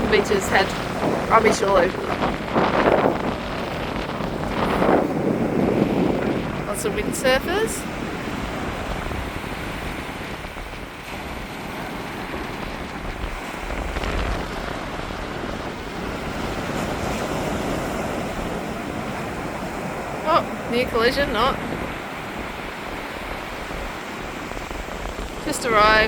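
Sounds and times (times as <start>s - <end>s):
surf washing on beach: 0.0s - 26.0s
wind buffeting microphone: 0.0s - 26.0s.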